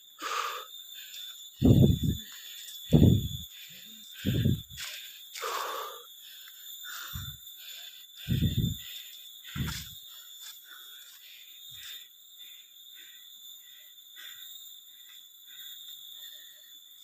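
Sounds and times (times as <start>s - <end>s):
faint chirping pulse: 0.0s - 17.0s
insects droning: 0.0s - 17.0s.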